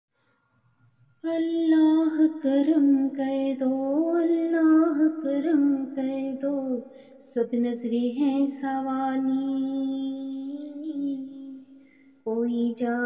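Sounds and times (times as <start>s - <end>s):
woman singing slow melody: 1.2s - 11.6s, 12.2s - 13.0s.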